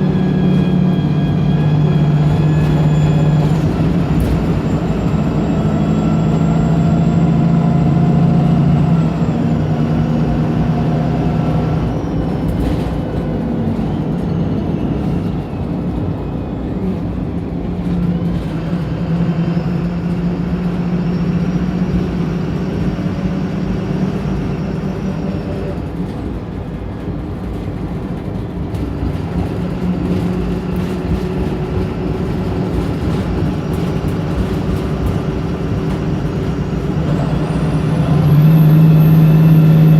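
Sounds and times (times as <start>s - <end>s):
bus diesel engine accelerating: 0.0s - 39.9s.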